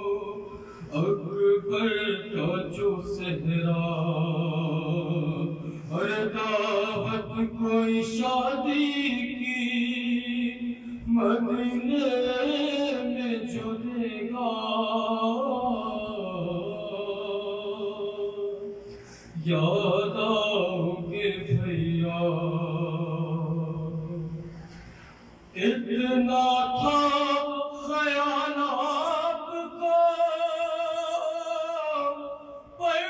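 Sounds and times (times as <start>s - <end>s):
man singing into a microphone: 0.0s - 18.6s, 19.4s - 24.5s, 25.5s - 33.0s.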